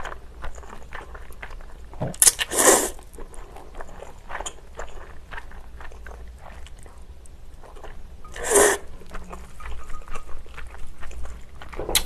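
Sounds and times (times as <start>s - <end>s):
wet chewing of noodles: 0.0s - 12.0s.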